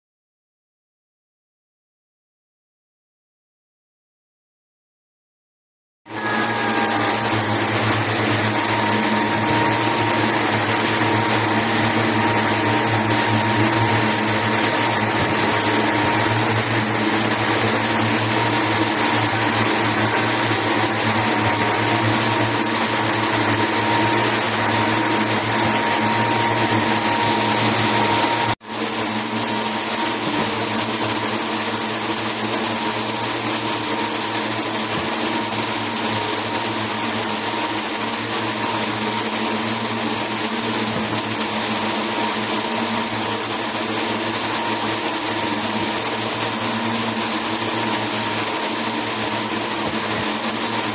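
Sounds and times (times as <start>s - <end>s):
yarn-winding machines droning: 6.1s - 50.9s.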